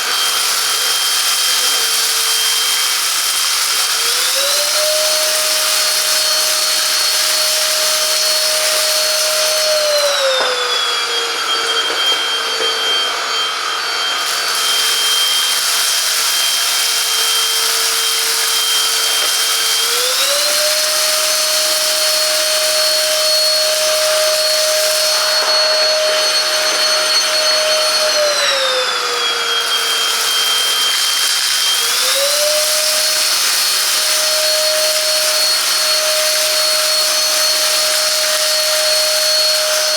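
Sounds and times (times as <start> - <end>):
handheld vacuum cleaner whine: 0.0 - 39.9.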